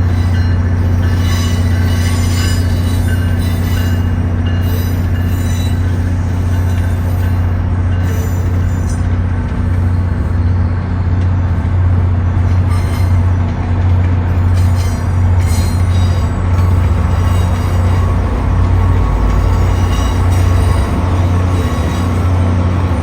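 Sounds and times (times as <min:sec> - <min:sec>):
train hum and rumble: 0:00.0 - 0:23.0.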